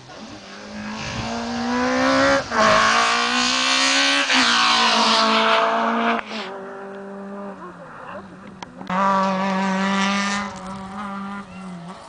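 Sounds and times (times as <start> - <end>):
rally car engine at full throttle: 0.0 - 12.0.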